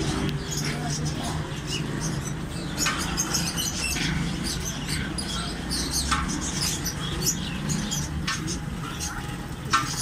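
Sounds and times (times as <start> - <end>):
caged birds chirping: 0.0 - 10.0.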